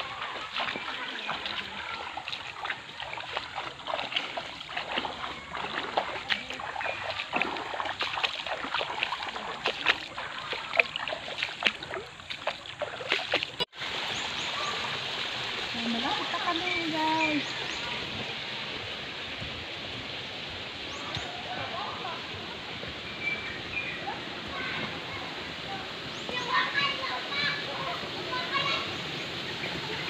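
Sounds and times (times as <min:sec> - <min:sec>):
flowing water: 0:00.0 - 0:30.0
footsteps splashing through creek: 0:00.0 - 0:30.0.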